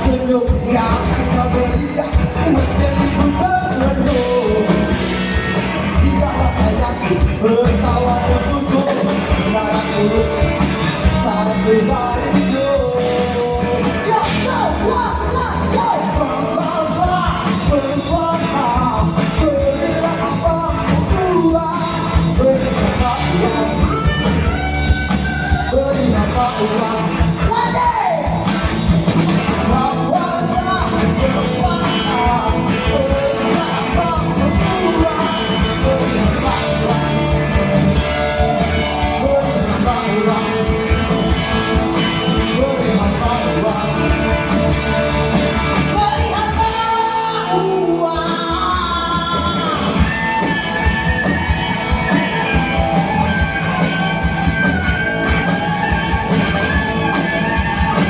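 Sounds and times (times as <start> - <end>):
electric guitar: 0.0 - 58.0
rock band playing: 0.0 - 58.0.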